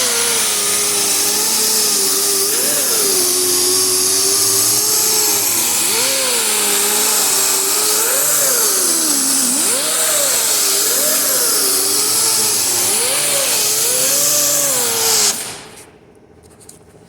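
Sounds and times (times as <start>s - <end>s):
power sander motor: 0.0s - 15.5s
loud abrasive hiss: 0.0s - 16.0s.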